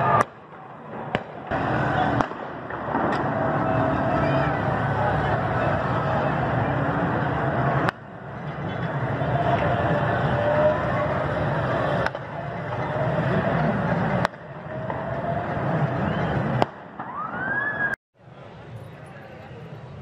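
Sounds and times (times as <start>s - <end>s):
sirens wailing: 0.0s - 18.0s
street din: 0.0s - 20.0s.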